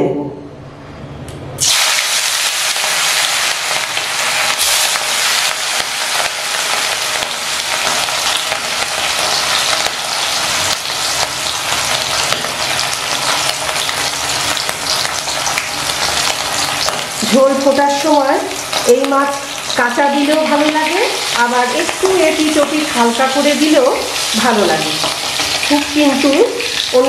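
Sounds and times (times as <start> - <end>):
fish frying in hot oil: 1.6 - 27.0.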